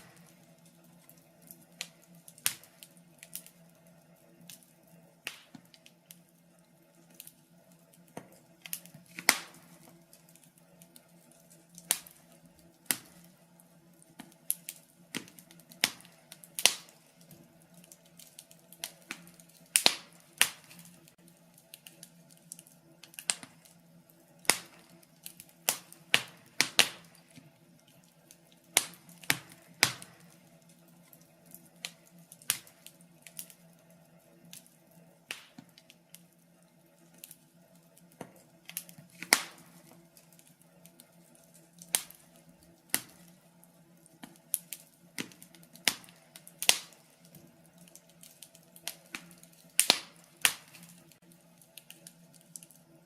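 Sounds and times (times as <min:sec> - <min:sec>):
faint steady hum: 0:00.0 - 0:53.0
wood fire crackling and popping: 0:00.0 - 0:53.0.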